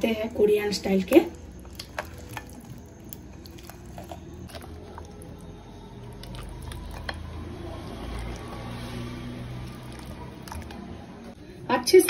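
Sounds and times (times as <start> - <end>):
wet squishing of food: 0.6 - 11.4.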